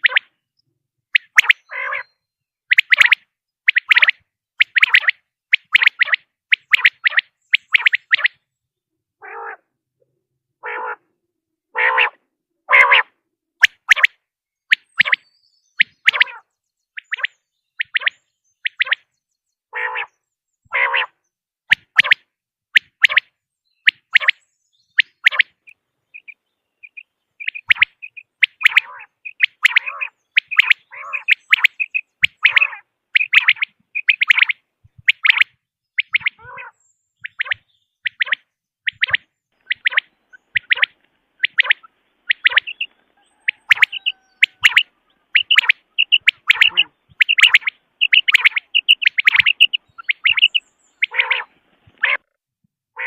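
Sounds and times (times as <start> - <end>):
quail call chirps: 0.0 - 0.4, 1.1 - 8.4, 9.2 - 9.8, 10.6 - 19.1, 19.7 - 52.3.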